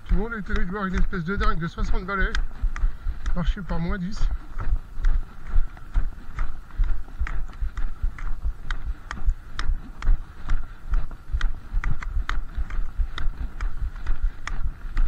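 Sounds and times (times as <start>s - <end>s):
footsteps on packed snow: 0.0s - 15.0s
walking pole tips clicking on ice: 0.0s - 15.0s.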